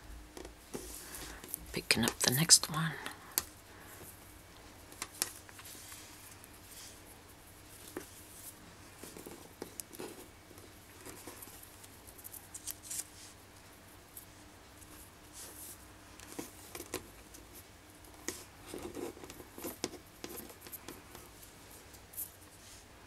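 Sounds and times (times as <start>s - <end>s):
fingers rustling cord: 0.4s - 22.9s.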